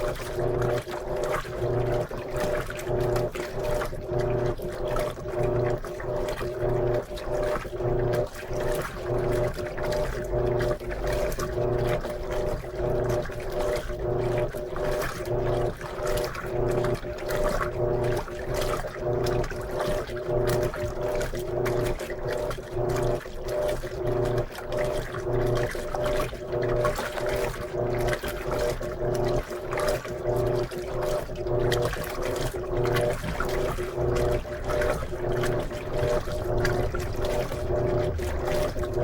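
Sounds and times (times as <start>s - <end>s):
washing machine motor hum: 0.0s - 39.0s
water churning: 0.0s - 39.0s.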